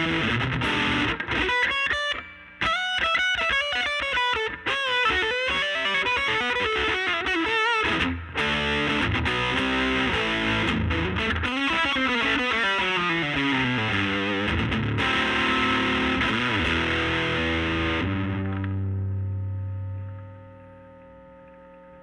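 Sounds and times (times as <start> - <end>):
overdriven electric guitar: 0.0 - 21.9.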